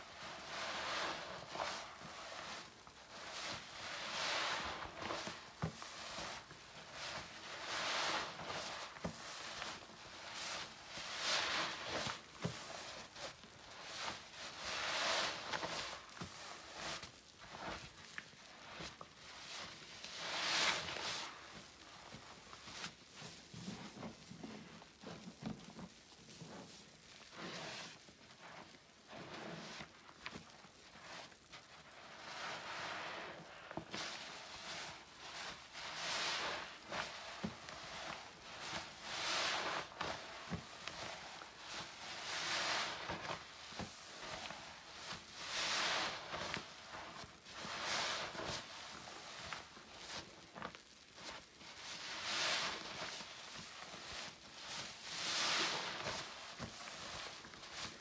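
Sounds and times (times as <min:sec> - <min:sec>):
wet sponge squished by hand: 0:00.2 - 0:58.0.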